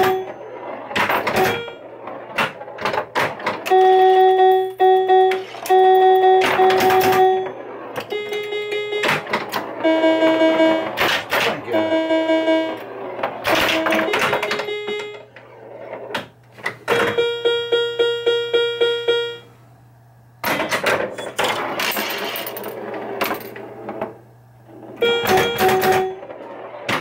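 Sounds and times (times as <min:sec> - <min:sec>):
pinball flippers and ball clacking: 0:00.0 - 0:19.6, 0:20.4 - 0:27.0
pinball machine electronic tones: 0:00.0 - 0:19.6, 0:20.3 - 0:27.0.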